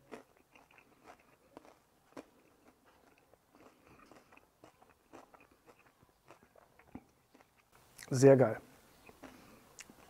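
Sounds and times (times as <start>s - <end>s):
person chewing crusty bread: 0.0s - 8.1s, 8.9s - 10.0s.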